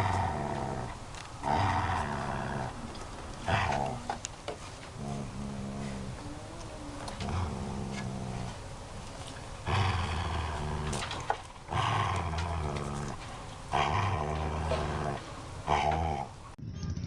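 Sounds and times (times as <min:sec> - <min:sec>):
dog growling: 0:00.0 - 0:16.5.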